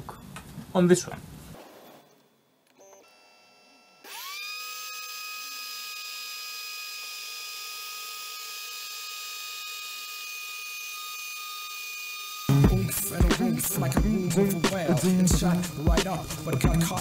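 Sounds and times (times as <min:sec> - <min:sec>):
rotary tool spindle whine: 0:02.7 - 0:17.0.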